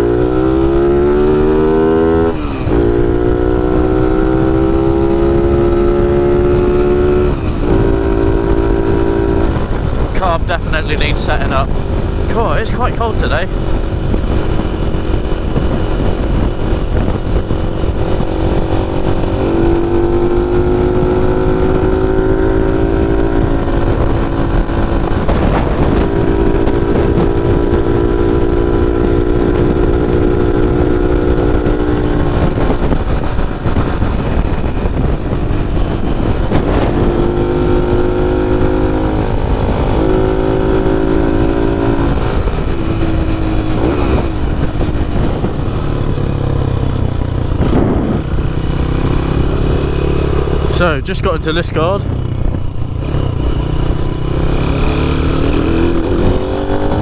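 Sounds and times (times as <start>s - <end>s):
wind rumble on microphone: 0.0s - 57.0s
small motorcycle engine running: 11.1s - 57.0s.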